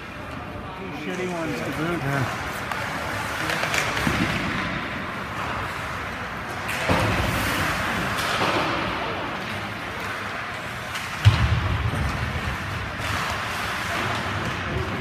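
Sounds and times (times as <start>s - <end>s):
hockey play on ice: 0.0s - 15.0s.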